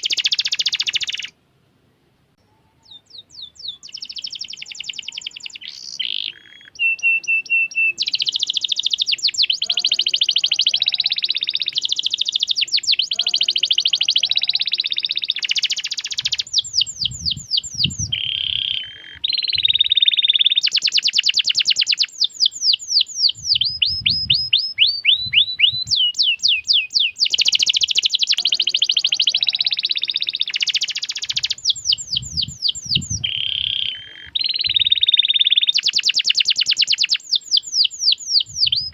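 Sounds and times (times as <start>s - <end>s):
canary singing trills: 0.0s - 1.4s, 2.4s - 38.9s.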